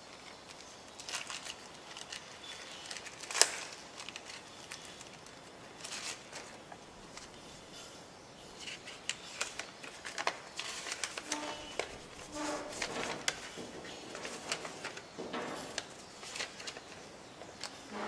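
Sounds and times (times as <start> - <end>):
paper crinkling and rustling: 0.0 - 7.9, 8.6 - 18.0.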